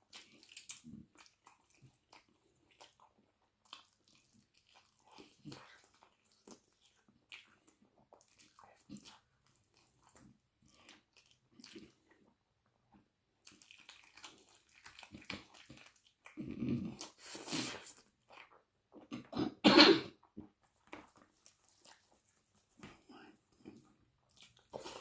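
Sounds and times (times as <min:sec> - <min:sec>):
soft chewing: 0:00.0 - 0:19.3, 0:20.1 - 0:25.0.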